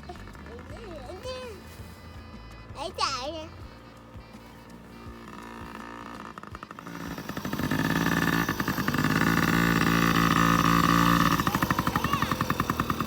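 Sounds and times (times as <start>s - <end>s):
small dirt bike engine revving: 0.0s - 2.0s, 3.5s - 13.0s.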